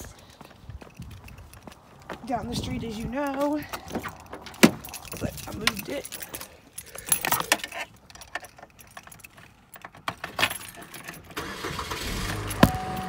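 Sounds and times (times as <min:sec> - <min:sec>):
car engine rumbling: 0:00.0 - 0:13.0
car keys jangling: 0:00.4 - 0:13.0.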